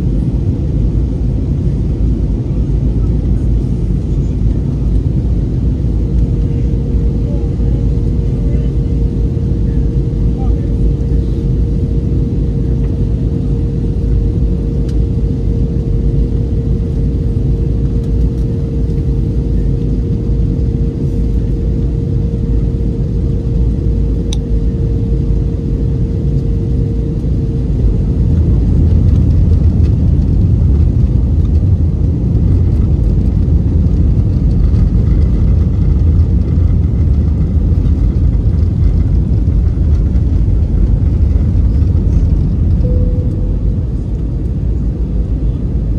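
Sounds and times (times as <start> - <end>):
low rumble of jet engines: 0.0 - 45.9
steady hum: 0.0 - 45.9.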